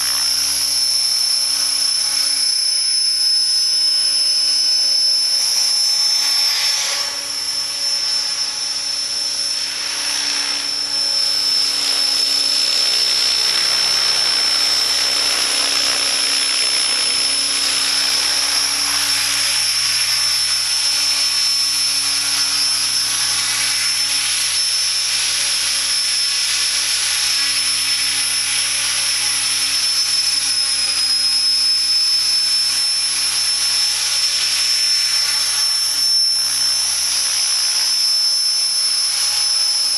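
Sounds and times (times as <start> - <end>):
high-pitched motor whine: 0.0 - 39.9
rotor blades rushing: 0.0 - 39.9.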